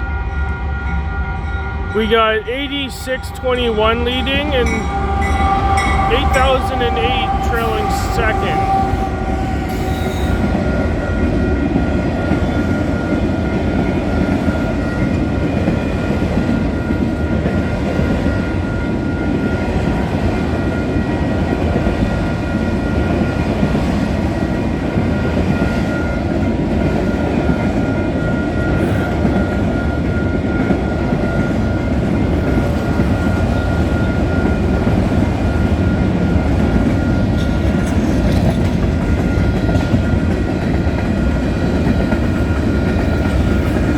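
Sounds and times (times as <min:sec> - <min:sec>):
train wheels rumbling on rails: 0:02.3 - 0:43.9.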